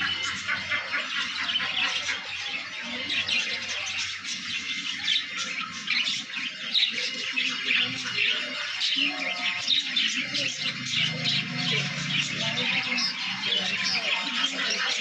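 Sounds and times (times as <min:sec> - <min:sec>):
parrots chirping and squawking: 0:00.0 - 0:15.0.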